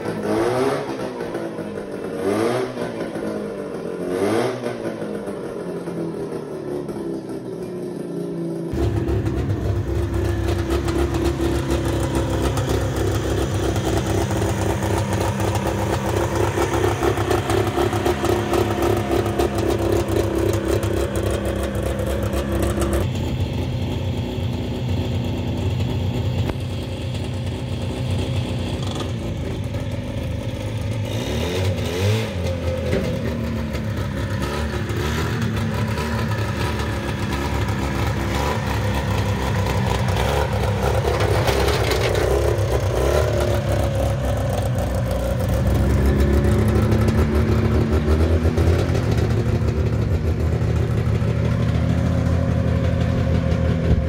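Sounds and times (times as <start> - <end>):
car engine revving and rumbling: 0.0 - 54.0.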